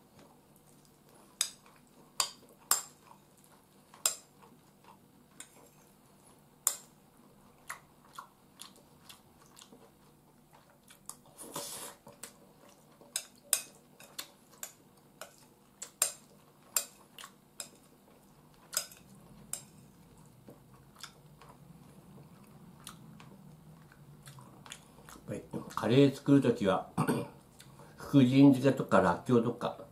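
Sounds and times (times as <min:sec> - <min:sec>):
quiet chewing: 0:00.1 - 0:26.0, 0:27.3 - 0:28.0.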